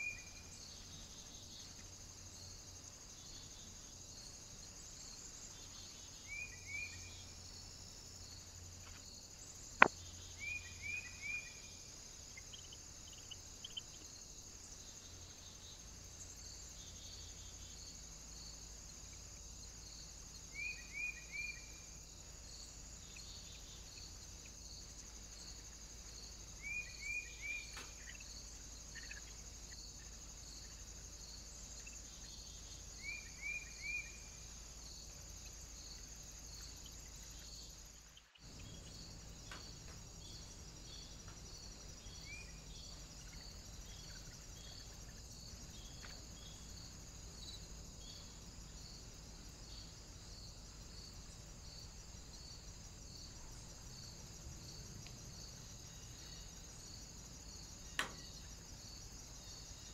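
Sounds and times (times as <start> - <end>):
crickets chirping: 0.0 - 59.9
faint outdoor background: 0.0 - 59.9.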